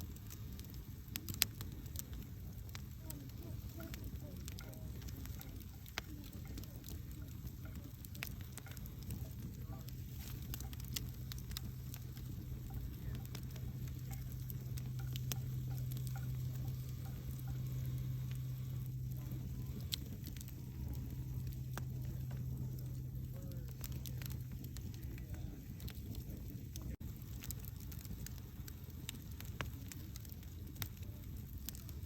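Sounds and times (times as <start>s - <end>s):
campfire crackling: 0.0s - 32.0s
steady low hum: 0.0s - 32.0s.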